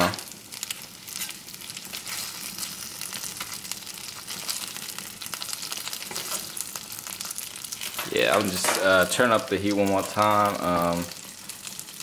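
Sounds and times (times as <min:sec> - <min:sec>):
fish sticks sizzling in oil: 0:00.0 - 0:12.0.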